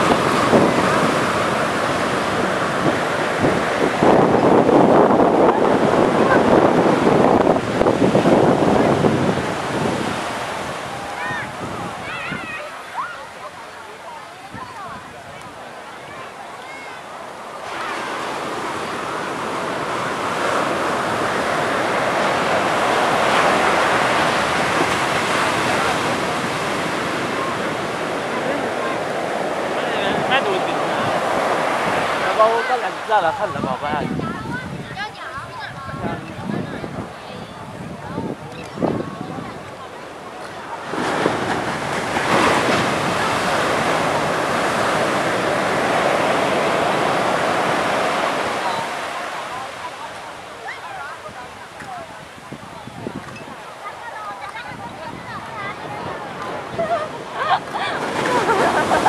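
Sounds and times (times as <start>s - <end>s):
surf washing on beach: 0.0s - 59.0s
wind: 0.0s - 59.0s.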